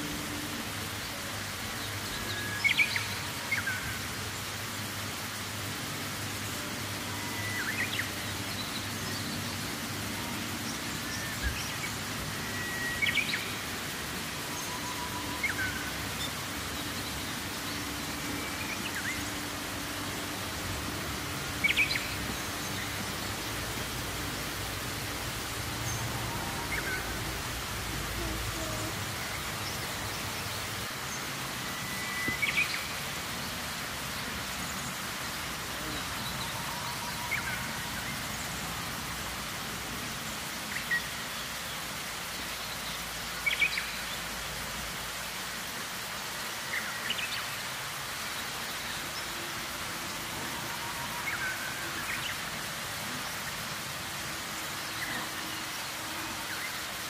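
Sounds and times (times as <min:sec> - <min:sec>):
steady outdoor hiss: 0:00.0 - 0:57.0.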